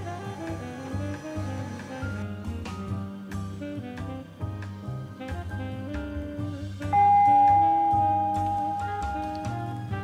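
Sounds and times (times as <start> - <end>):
jazz instrumental music: 0.0 - 10.0.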